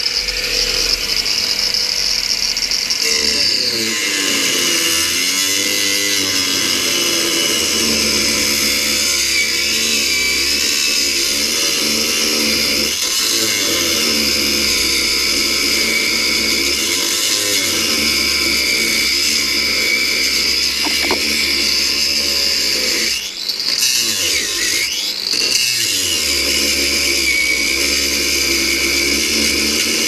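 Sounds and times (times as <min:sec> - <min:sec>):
power tool cutting steel: 0:00.0 - 0:30.0.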